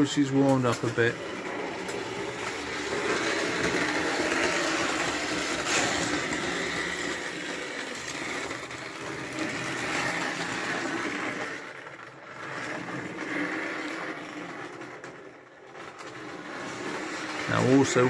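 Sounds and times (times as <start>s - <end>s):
toy train motor whirring: 0.0s - 18.0s
wheels rattling over rails: 0.0s - 18.0s.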